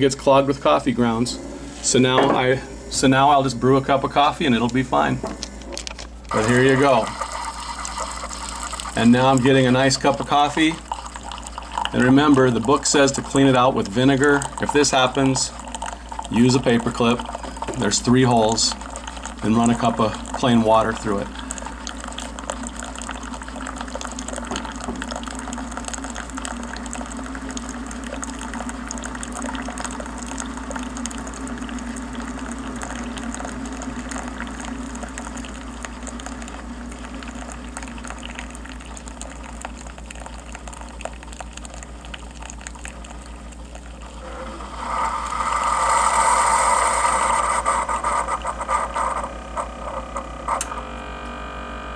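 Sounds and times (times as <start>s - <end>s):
coffee maker sputtering hiss: 0.0s - 51.1s
coffee maker pump humming: 0.0s - 51.9s
coffee streaming into a mug: 3.2s - 50.1s.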